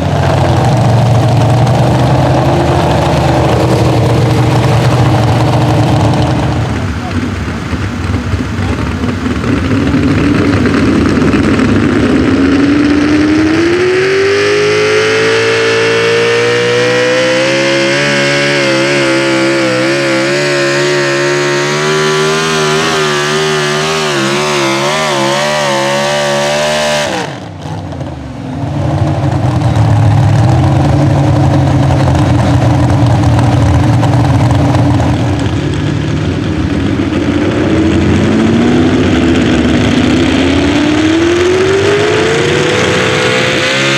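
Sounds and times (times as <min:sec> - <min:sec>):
lower steady engine sound: 0:00.0 - 0:43.9
truck engine revving at full throttle: 0:00.0 - 0:43.9.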